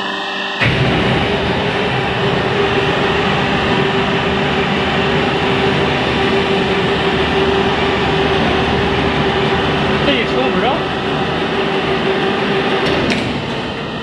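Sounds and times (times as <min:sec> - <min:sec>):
hydraulic press machinery humming: 0:00.0 - 0:14.0.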